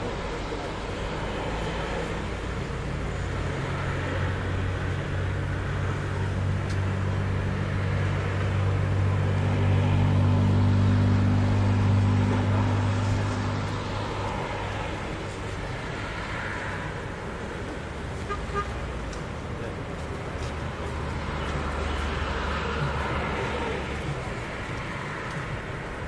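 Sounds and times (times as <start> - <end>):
vehicle engine drone: 0.0 - 26.0.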